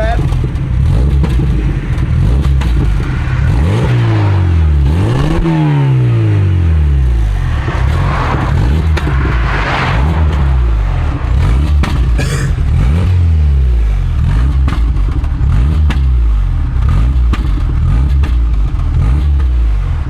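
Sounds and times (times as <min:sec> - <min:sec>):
exhaust cracks: 0:00.0 - 0:19.6
car engine accelerating hard: 0:00.0 - 0:20.0.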